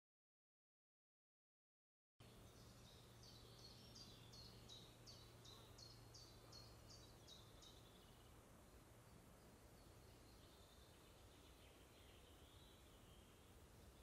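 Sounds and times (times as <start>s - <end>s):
bird chirping: 2.2s - 14.0s
low steady hum: 2.2s - 14.0s.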